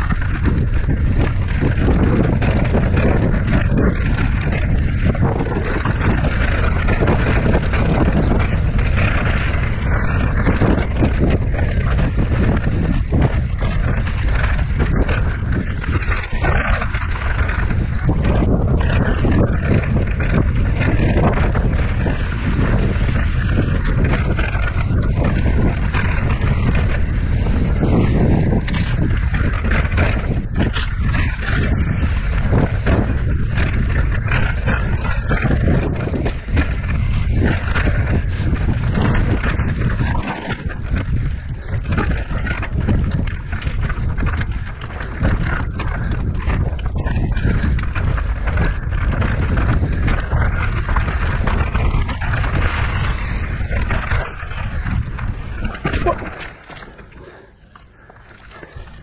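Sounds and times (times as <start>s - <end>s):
bike rattling over rocks: 0.0s - 59.0s
wind buffeting microphone: 0.0s - 59.0s.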